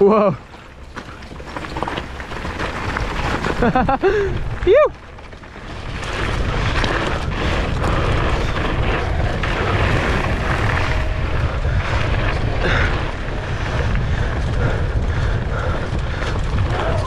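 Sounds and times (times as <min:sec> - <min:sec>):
mountain bike rolling on dirt: 0:00.0 - 0:17.0
wind buffeting microphone: 0:00.0 - 0:17.0.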